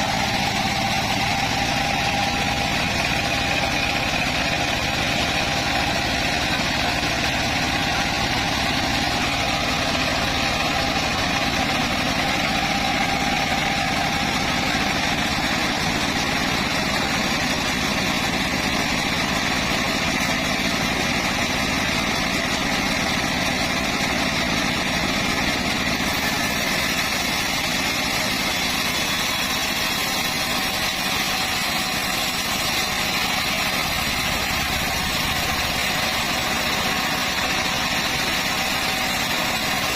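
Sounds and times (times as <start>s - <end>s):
engine-driven band sawmill running: 0.0s - 39.9s.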